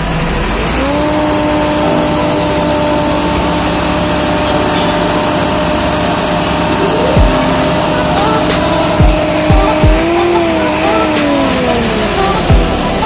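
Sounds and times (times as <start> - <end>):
tractor diesel engine revving: 0.0 - 13.0.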